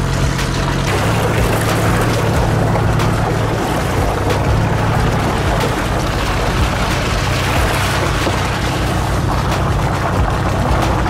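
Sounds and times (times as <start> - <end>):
tyre noise: 0.0 - 11.0
vehicle engine running: 0.0 - 11.0
wind noise on microphone: 0.0 - 11.0.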